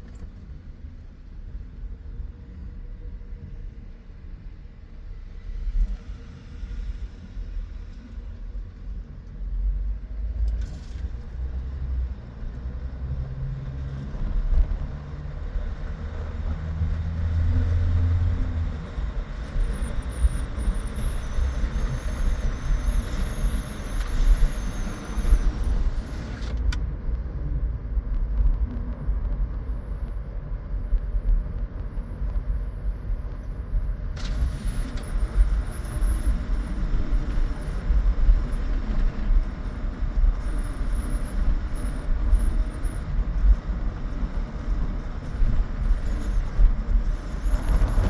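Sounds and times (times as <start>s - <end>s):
road traffic rumble: 2.0s - 48.0s.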